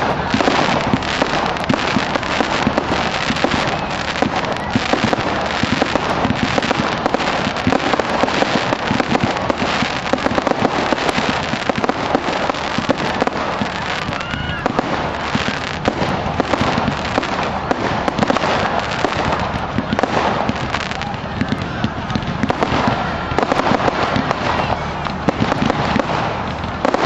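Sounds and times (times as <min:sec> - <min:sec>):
fireworks cracking and banging: 0:00.0 - 0:27.0.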